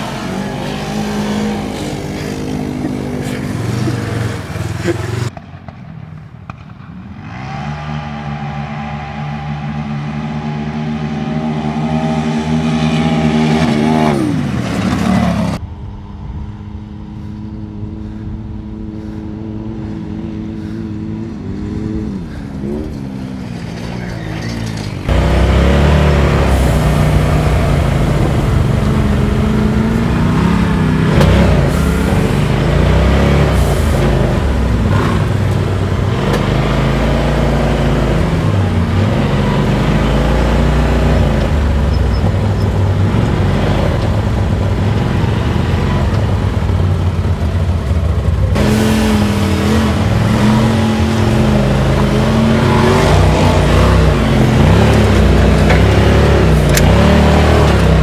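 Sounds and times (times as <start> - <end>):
utility vehicle engine revving: 0.0 - 5.4, 6.5 - 58.0
engine running steadily: 0.0 - 58.0
utility vehicles racing past: 0.0 - 58.0.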